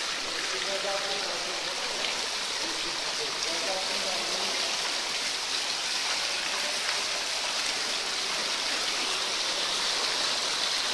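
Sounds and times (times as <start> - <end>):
waterfall pouring into pool: 0.0 - 10.9.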